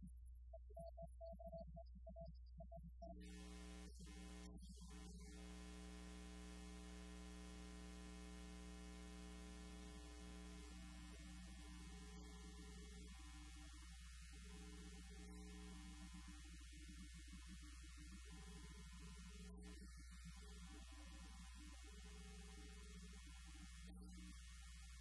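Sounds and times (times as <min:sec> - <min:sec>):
faint mains hum: 0:00.0 - 0:25.0.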